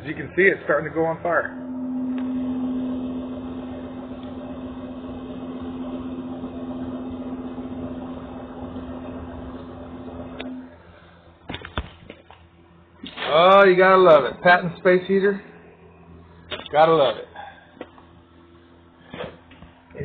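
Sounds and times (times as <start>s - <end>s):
space heater fan humming: 0.0s - 20.0s.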